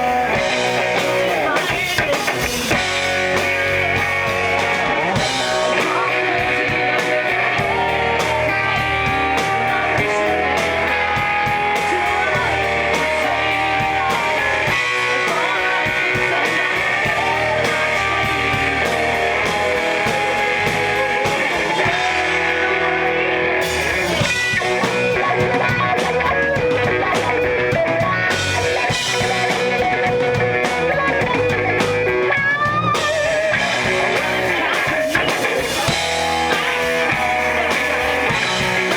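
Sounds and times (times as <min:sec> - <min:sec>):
electric guitars: 0:00.0 - 0:38.9
rock band playing live: 0:00.0 - 0:38.9.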